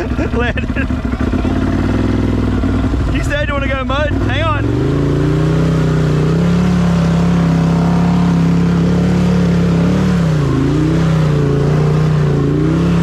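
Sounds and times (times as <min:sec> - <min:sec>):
engine revving hard: 0:00.0 - 0:13.0.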